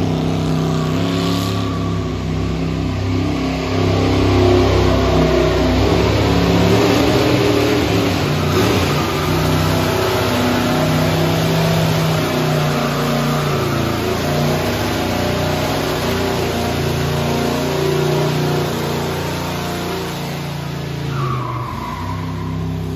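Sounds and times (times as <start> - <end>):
car engine at high revs: 0.0 - 22.9
tires spinning: 0.0 - 22.9.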